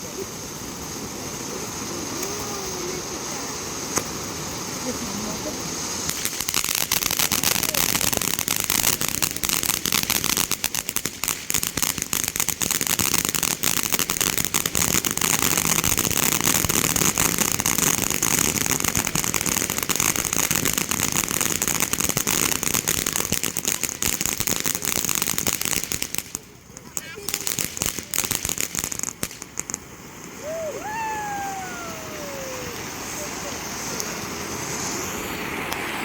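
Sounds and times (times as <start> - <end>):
fireworks crackling: 0.0 - 36.0.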